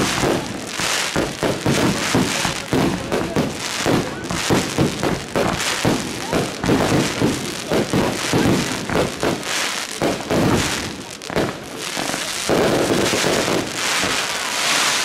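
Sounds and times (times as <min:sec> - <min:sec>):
firework shells bursting: 0:00.0 - 0:15.0
fireworks crackling: 0:00.0 - 0:15.0.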